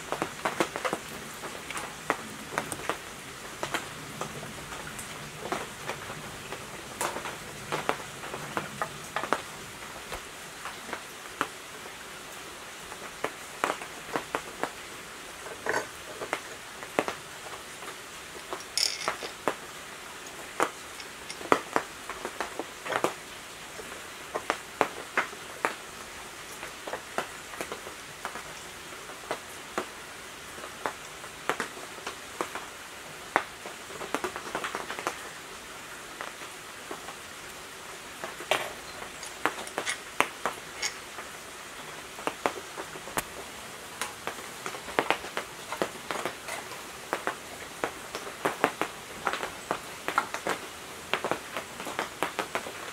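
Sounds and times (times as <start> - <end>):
faint steady hiss: 0.0 - 52.9.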